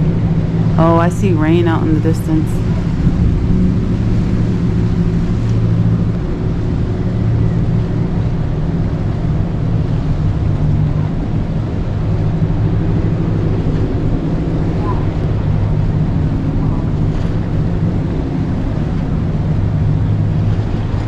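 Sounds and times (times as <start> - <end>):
ship machinery drone: 0.0 - 21.0.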